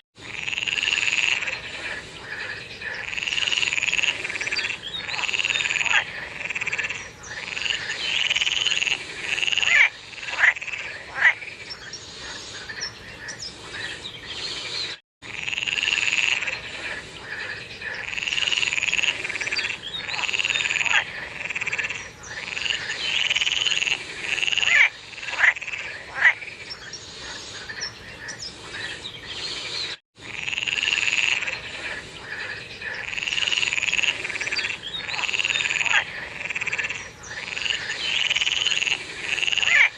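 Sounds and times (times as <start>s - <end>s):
frogs croaking: 0.2s - 39.9s.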